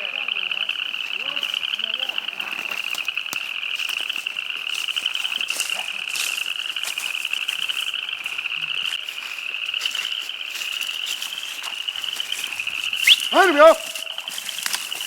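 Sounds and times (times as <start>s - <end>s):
frogs calling in chorus: 0.0s - 15.0s.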